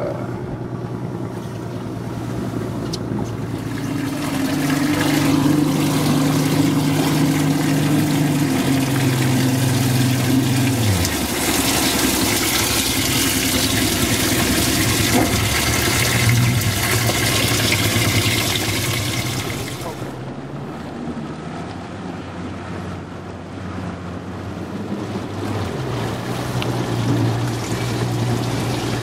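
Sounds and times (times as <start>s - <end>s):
outboard motor running: 0.0s - 29.0s
water sloshing and churning: 0.0s - 29.0s.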